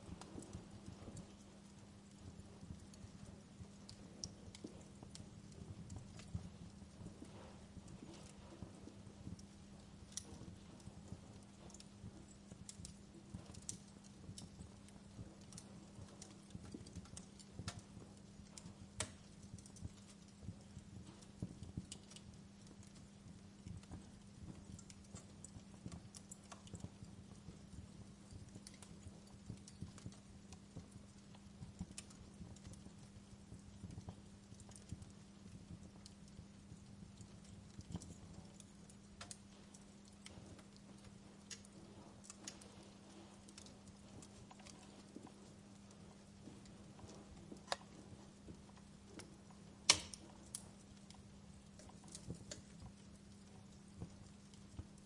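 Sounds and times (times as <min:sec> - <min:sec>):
steady low hum: 0:00.0 - 0:55.0
wood fire crackling: 0:00.0 - 0:55.0.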